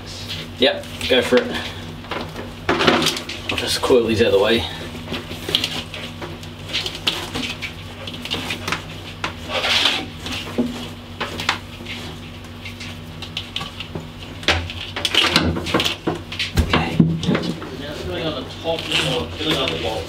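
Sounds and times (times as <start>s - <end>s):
steady low hum: 0.0s - 20.0s
cables rustling and scraping: 0.1s - 20.0s.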